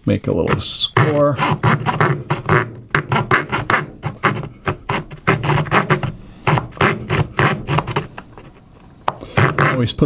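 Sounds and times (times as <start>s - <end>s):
blade scraping wood: 0.4s - 8.6s, 9.2s - 10.0s.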